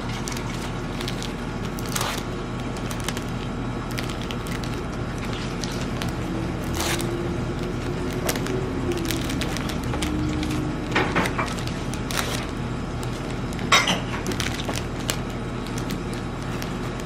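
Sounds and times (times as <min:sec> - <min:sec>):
cellophane bags crinkling: 0:00.0 - 0:17.0
steady low hum: 0:00.0 - 0:17.0.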